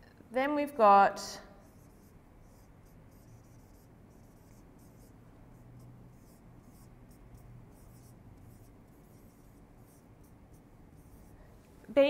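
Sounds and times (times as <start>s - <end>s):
marker pen scratching on whiteboard: 1.6s - 11.4s.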